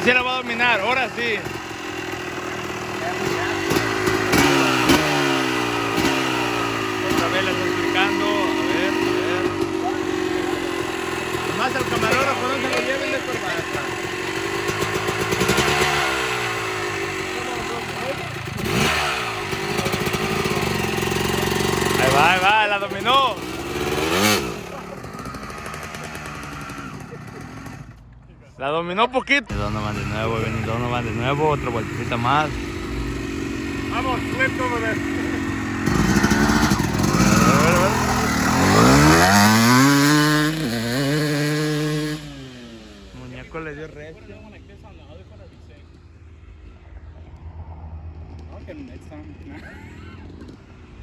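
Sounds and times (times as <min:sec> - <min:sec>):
motorcycle engine revving: 0:00.0 - 0:28.3, 0:29.5 - 0:51.0.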